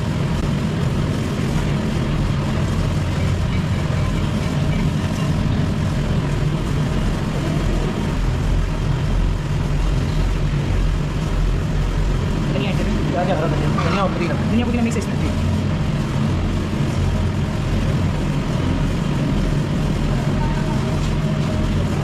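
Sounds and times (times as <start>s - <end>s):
machinery humming and rumbling: 0.0s - 22.0s.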